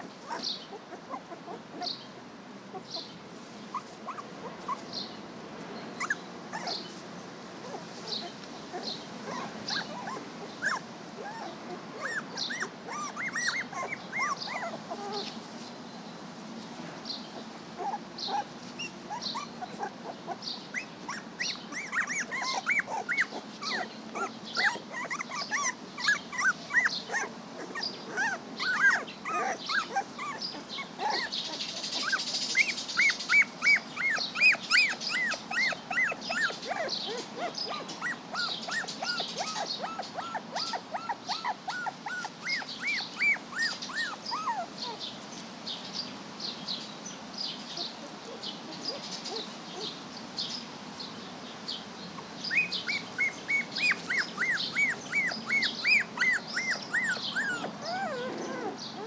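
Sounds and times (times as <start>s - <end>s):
puppies squealing and yipping: 0.0s - 3.1s, 3.7s - 4.8s, 6.0s - 7.0s, 7.6s - 15.3s, 17.8s - 45.4s, 47.8s - 50.0s, 52.2s - 59.0s
birds singing: 0.0s - 7.0s, 7.6s - 16.2s, 17.0s - 59.0s.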